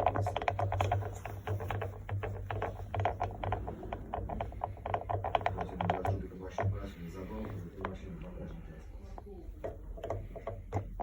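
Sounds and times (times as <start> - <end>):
air compressor knocking: 0.0 - 11.0
motor hum: 0.0 - 11.0.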